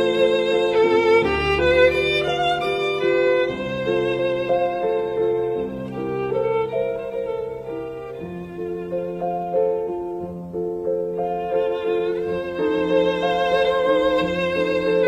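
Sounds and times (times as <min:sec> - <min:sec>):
slow instrumental music: 0:00.0 - 0:15.0
violin-like strings: 0:00.0 - 0:15.0.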